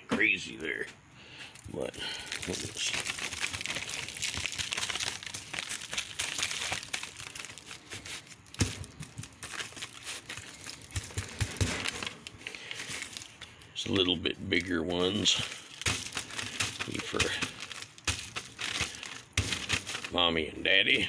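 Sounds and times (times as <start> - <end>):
paper crinkling and rustling: 1.6 - 21.0.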